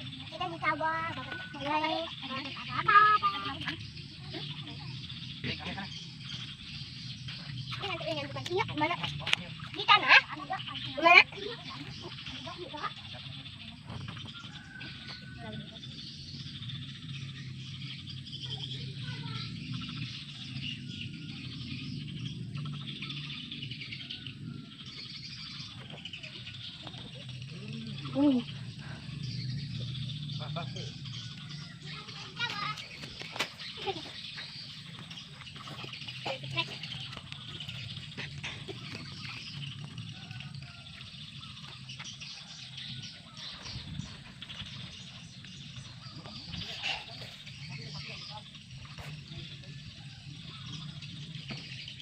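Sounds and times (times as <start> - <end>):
birds chirping: 0.0 - 52.0
insects chirring: 0.0 - 52.0
steady low hum: 0.0 - 52.0.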